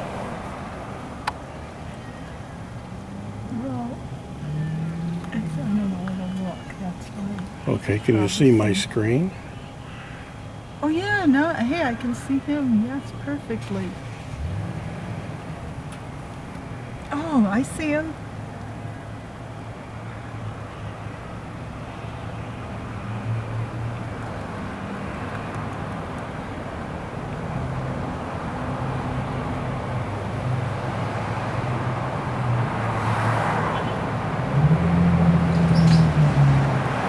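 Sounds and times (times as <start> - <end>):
road noise: 0.0 - 37.0
vehicle engine humming: 0.0 - 37.0.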